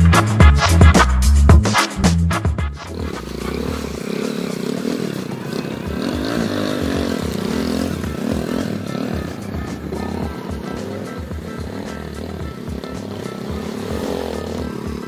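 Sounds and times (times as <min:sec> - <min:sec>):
small motorcycle engine running: 0:02.8 - 0:15.0.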